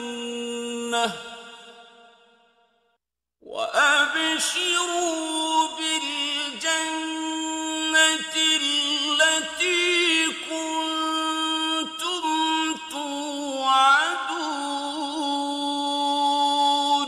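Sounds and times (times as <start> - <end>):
person reciting melodically: 0.0 - 1.9, 3.5 - 17.0.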